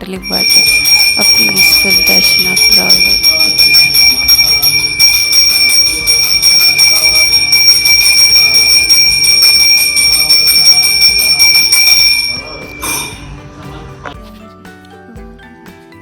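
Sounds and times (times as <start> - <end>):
bell ringing: 0.0 - 14.2
faint music: 0.0 - 16.0.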